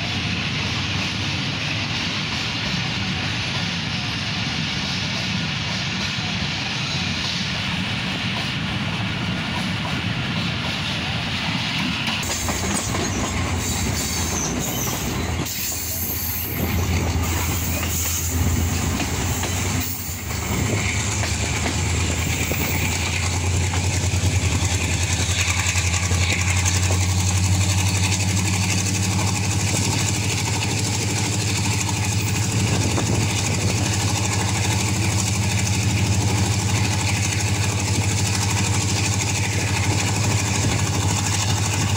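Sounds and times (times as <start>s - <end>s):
diesel locomotive engine: 0.0s - 41.9s.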